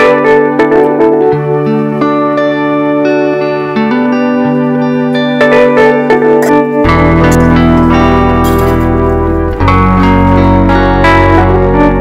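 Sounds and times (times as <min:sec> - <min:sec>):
guitar instrumental chords: 0:00.0 - 0:12.0.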